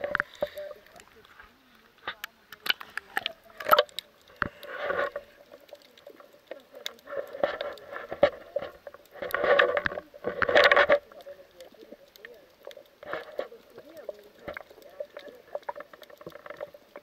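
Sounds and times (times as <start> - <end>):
low underwater hum: 0.0 - 17.0.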